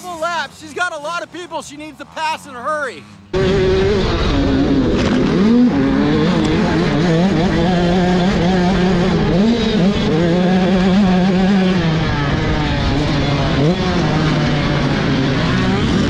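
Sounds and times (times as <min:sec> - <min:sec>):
dirt bike engine revving: 0:01.6 - 0:16.0.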